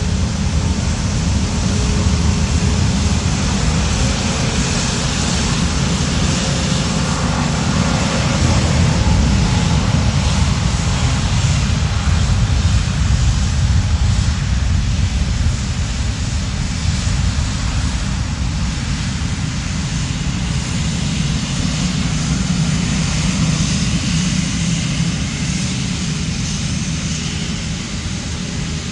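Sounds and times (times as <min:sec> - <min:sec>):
jet engines rumbling and hissing: 0:00.0 - 0:28.9.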